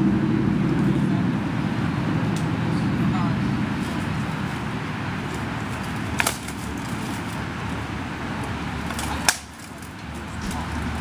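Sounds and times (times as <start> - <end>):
low background rumble: 0.0 - 9.2.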